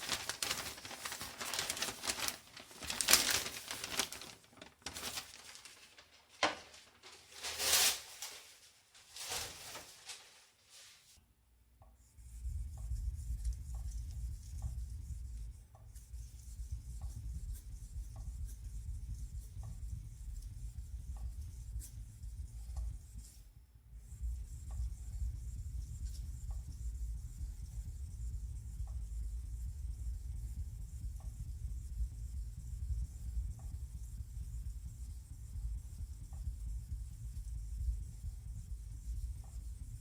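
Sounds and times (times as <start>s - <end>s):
low steady rumble: 0.0s - 6.1s, 12.1s - 40.0s.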